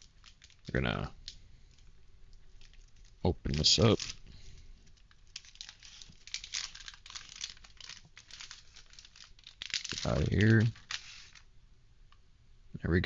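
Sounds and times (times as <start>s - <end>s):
packaging crinkling and tearing: 0.0s - 11.5s.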